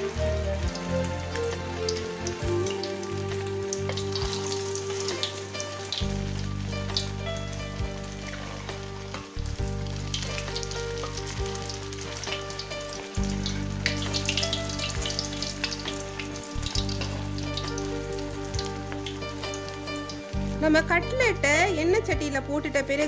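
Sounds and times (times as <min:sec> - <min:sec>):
fish frying in hot oil: 0:00.0 - 0:22.3.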